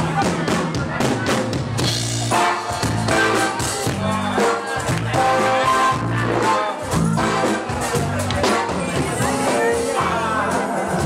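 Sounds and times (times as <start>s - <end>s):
bass notes: 0.0s - 11.0s
drums: 0.0s - 11.0s
live band playing: 0.0s - 11.0s.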